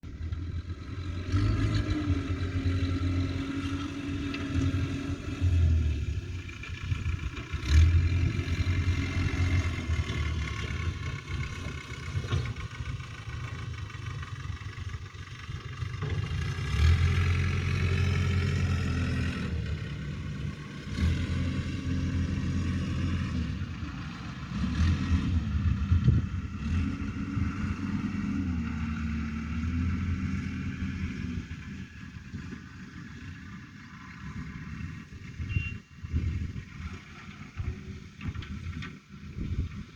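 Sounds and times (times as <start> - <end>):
diesel engine revving: 0.1 - 39.9.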